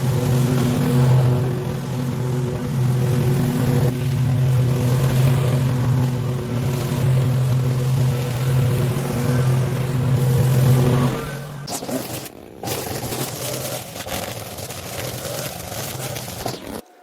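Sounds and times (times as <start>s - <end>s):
small engine running steadily: 0.0s - 16.8s.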